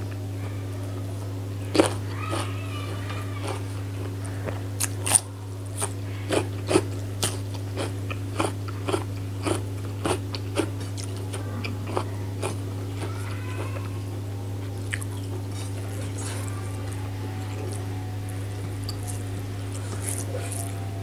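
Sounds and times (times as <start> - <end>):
low electrical hum: 0.0 - 21.0
person chewing crunchy food: 1.7 - 14.0, 14.6 - 21.0.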